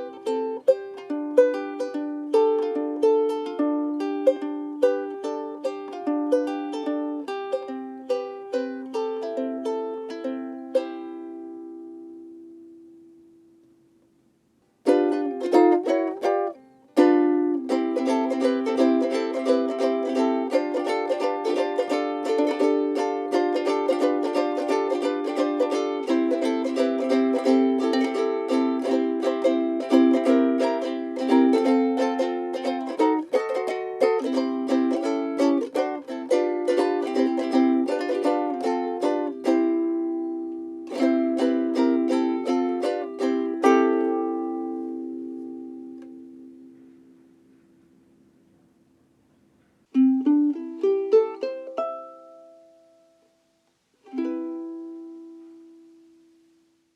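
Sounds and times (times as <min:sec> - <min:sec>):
ukulele playing: 0:00.0 - 0:14.1, 0:14.7 - 0:56.9.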